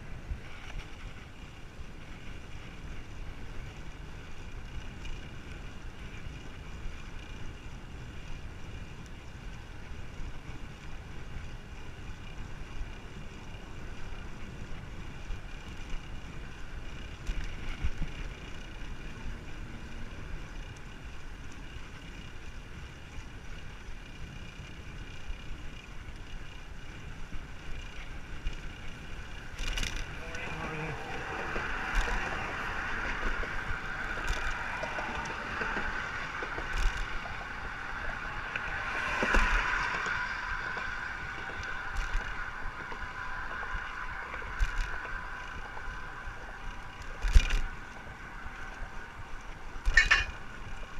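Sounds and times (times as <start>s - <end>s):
wind rumbling on microphone: 0.0s - 50.9s.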